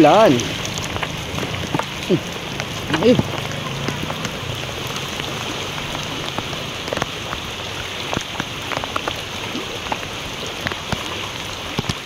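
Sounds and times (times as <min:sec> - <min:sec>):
heavy rain on floodwater: 0:00.0 - 0:12.0
sharp ticks of raindrops: 0:00.0 - 0:12.0.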